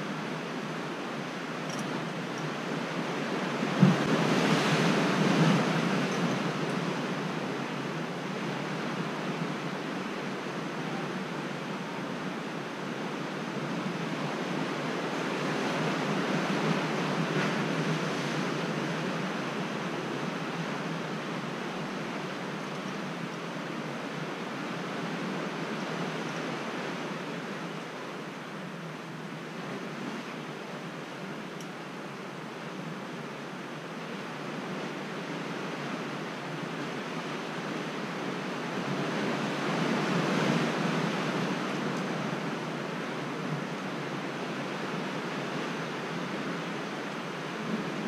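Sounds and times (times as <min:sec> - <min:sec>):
sea surf washing against rocks: 0:00.0 - 0:48.0.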